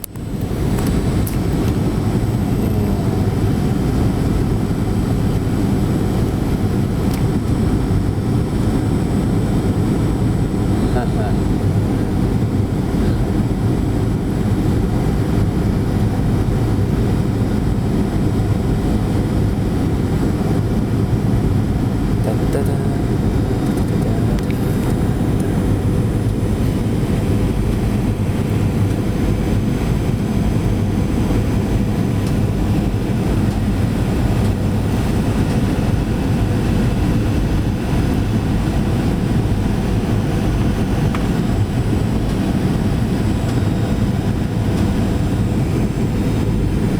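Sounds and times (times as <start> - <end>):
jet engines roaring in cabin: 0.0 - 46.9.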